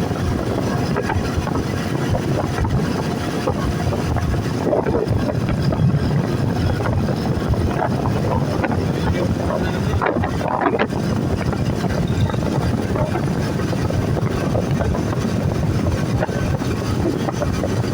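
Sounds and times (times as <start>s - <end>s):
moving vehicle rumble: 0.0s - 17.9s
traffic: 0.0s - 17.9s
wind buffeting microphone: 0.0s - 17.9s.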